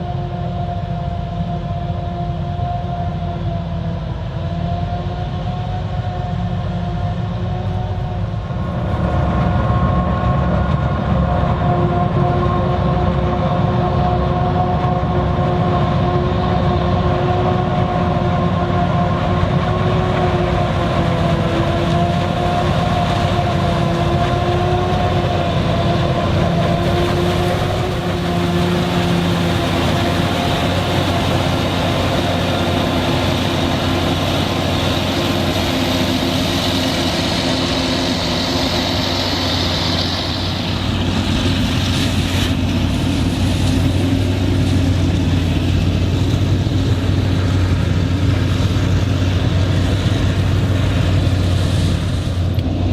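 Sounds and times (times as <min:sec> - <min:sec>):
harvester engine and chopping drum: 0:00.0 - 0:52.9
high whine: 0:00.0 - 0:52.9
pitched hum: 0:00.0 - 0:52.9.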